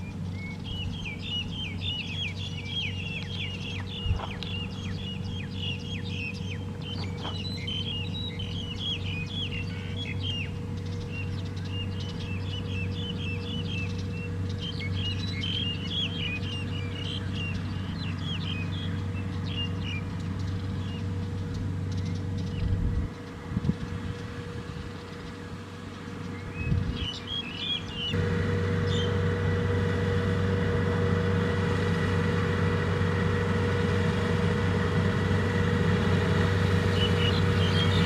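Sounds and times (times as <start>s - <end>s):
small birds chirping: 0.0s - 29.7s, 32.0s - 38.0s
diesel engine running: 0.0s - 38.0s.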